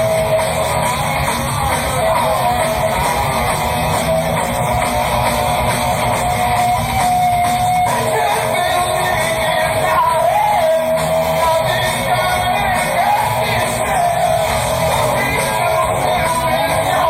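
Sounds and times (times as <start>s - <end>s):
electric guitar lead notes: 0.0s - 17.0s
heavy rock band playing: 0.0s - 17.0s.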